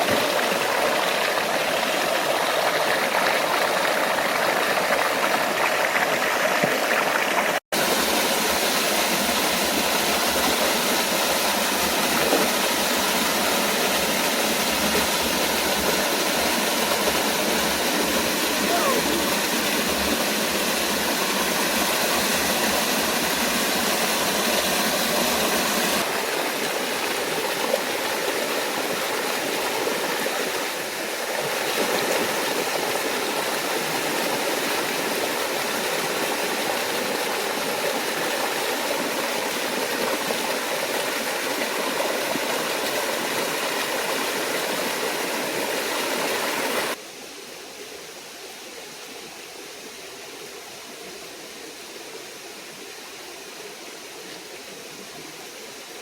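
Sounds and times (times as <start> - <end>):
rushing waterfall and stream: 0.0 - 56.0.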